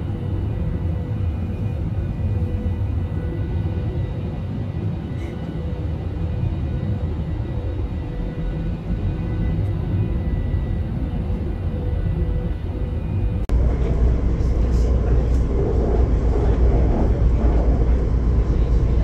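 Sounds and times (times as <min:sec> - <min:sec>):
jet engine and airflow rumble: 0:00.0 - 0:19.0.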